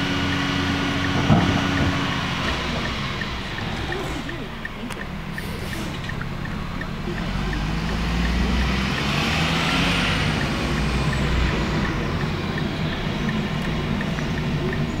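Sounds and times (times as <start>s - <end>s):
garbage truck engine rumble: 0.0s - 15.0s.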